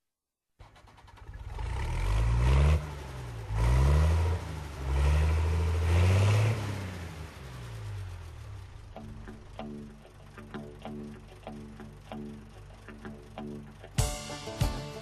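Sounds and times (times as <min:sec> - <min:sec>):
vehicle engine accelerating: 0:00.6 - 0:14.0.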